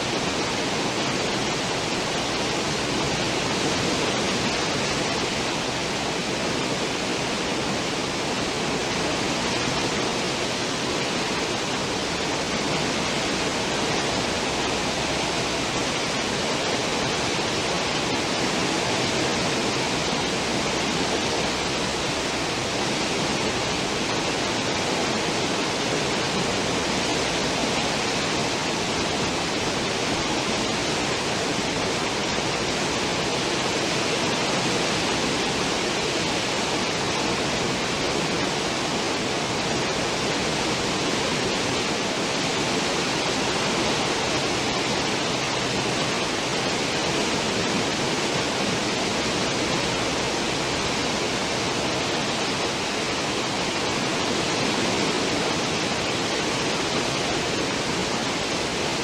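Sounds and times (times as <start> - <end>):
ship wake water rushing: 0.0 - 59.0.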